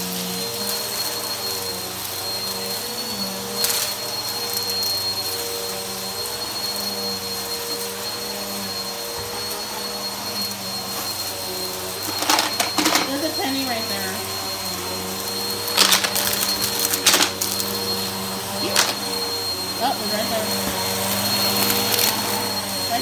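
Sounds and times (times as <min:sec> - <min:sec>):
vacuum cleaner running over carpet: 0:00.0 - 0:23.0.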